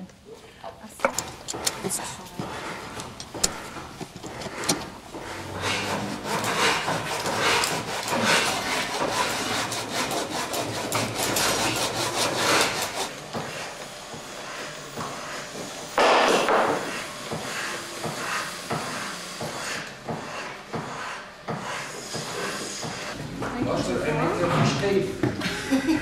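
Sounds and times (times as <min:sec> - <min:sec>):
hand saw cutting horn: 0:01.0 - 0:23.2.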